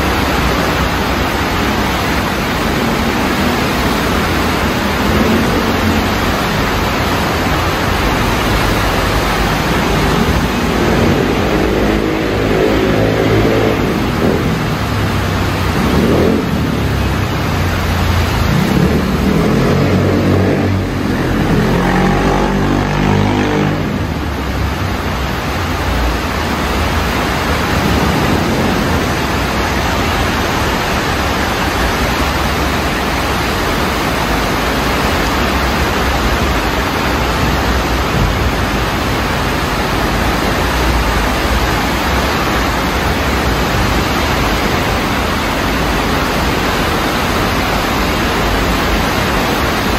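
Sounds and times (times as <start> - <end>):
passing vehicle engine: 0.0 - 49.9
stream rushing: 0.0 - 49.9.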